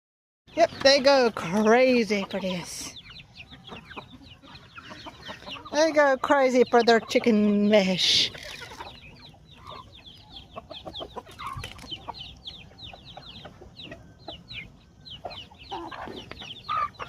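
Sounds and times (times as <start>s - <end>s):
chickens chirping: 0.5s - 17.0s
chickens clucking: 0.5s - 17.0s.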